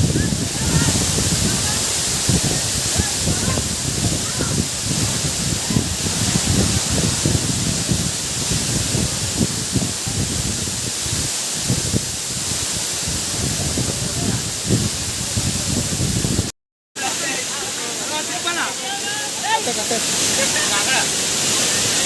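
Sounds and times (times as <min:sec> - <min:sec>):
water rushing over a dam: 0:00.0 - 0:22.0.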